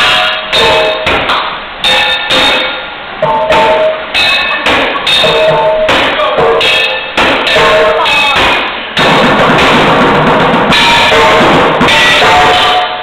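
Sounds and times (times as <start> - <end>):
pots and pans drumming: 0.0 - 13.0.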